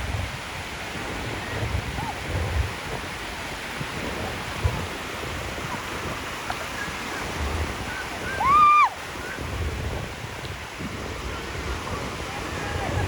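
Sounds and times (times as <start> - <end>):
ocean surf on shore: 0.0 - 13.0.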